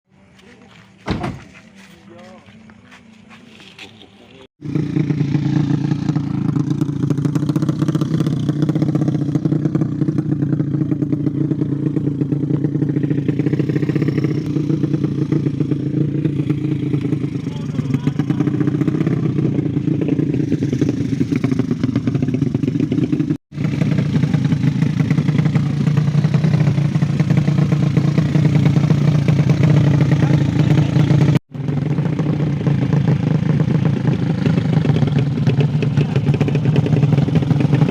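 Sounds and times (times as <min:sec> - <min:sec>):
motorcycle engine idling: 0:04.6 - 0:37.9.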